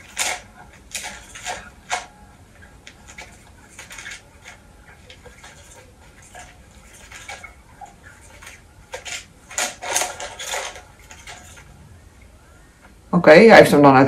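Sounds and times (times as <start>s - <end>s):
spinning toy clicking and rattling: 0.0s - 11.7s.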